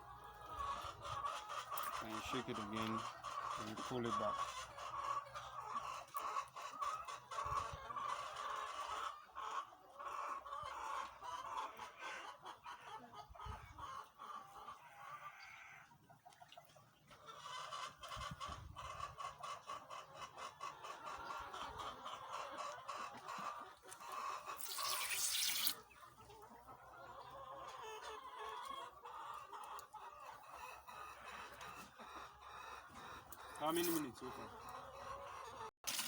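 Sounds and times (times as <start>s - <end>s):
hens clucking: 0.0s - 36.0s.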